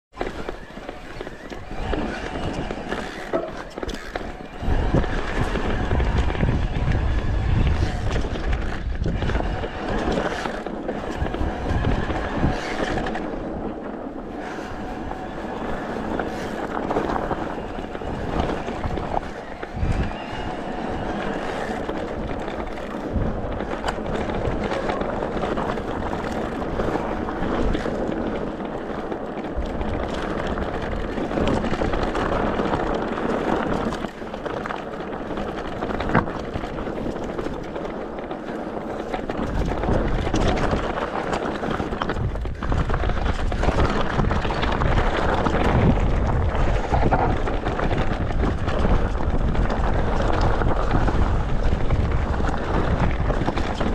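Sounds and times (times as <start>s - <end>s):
wind buffeting microphone: 0.1s - 53.9s.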